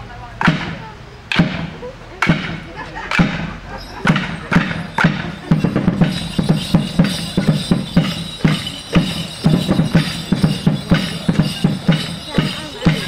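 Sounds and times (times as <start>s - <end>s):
drum beat: 1.4s - 13.0s
wooden sticks clashing: 2.2s - 13.0s.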